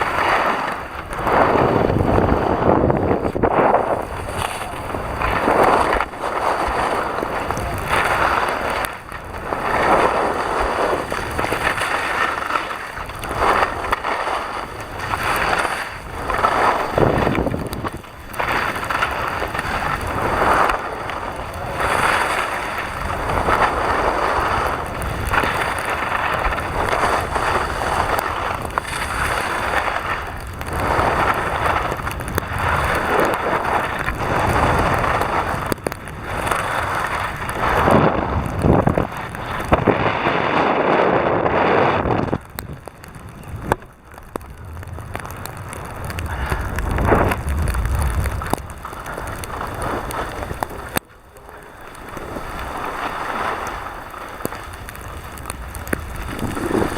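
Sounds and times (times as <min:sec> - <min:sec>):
skis hissing over snow: 0:00.0 - 0:42.2, 0:48.0 - 0:56.9
wind rushing over microphone: 0:00.0 - 0:56.9.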